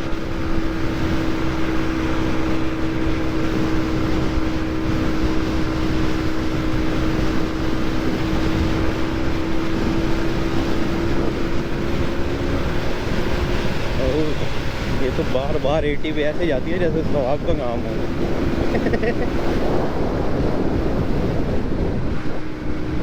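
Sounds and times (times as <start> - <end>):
motorcycle engine running: 0.0 - 23.0
wind on microphone: 0.0 - 23.0.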